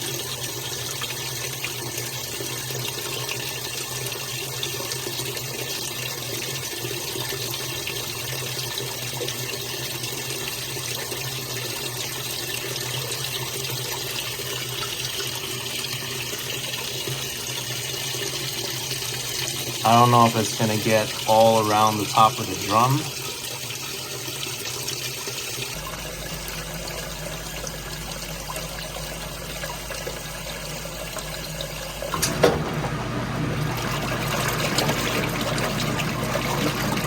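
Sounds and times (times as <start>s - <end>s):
water pouring into drum: 0.0s - 37.0s.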